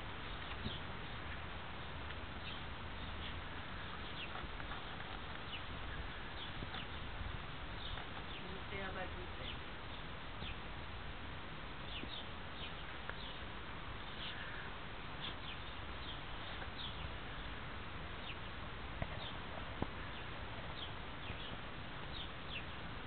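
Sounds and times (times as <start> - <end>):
small birds chirping: 0.0 - 23.0
steady background hiss: 0.0 - 23.0.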